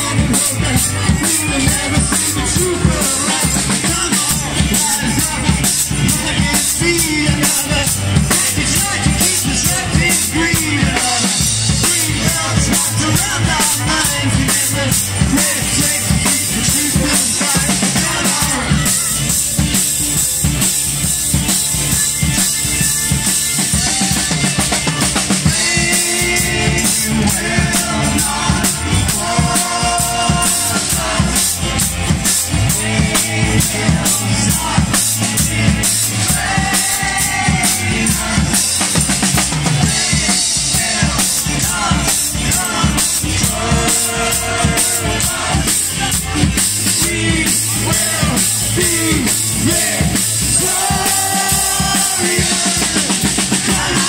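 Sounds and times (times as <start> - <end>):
drum kit steady beat: 0.0 - 54.0
live band playing: 0.0 - 54.0.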